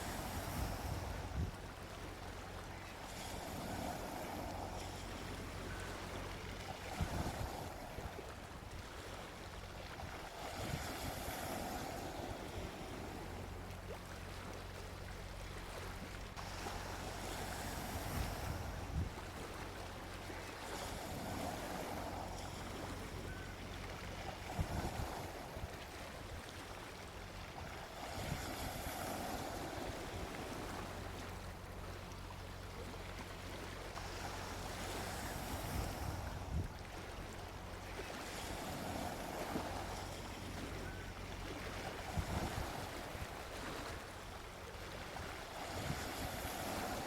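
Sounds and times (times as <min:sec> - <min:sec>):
ocean waves washing onto beach: 0:00.0 - 0:47.0.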